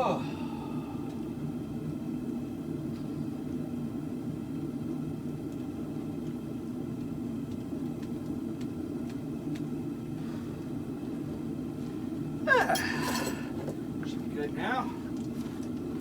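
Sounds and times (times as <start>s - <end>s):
forge burner rumbling: 0.0s - 16.0s.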